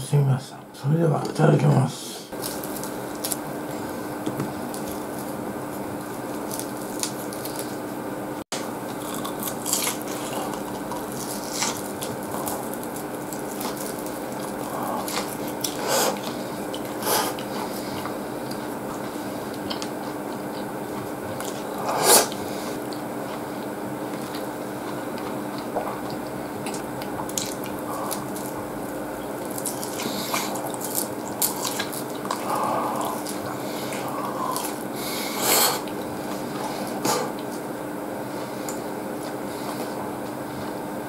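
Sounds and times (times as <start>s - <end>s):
steady low hum: 0.0s - 41.0s
man biting and chewing: 2.4s - 7.8s, 8.6s - 37.7s.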